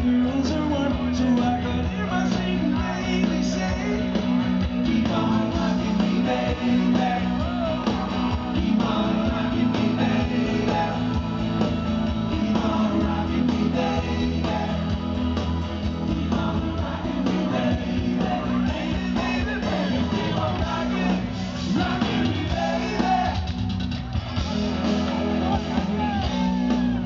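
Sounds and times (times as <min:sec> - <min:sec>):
people singing: 0:00.0 - 0:23.8
bass guitar: 0:00.0 - 0:27.0
drums: 0:00.0 - 0:27.0
electric guitars: 0:00.0 - 0:27.0.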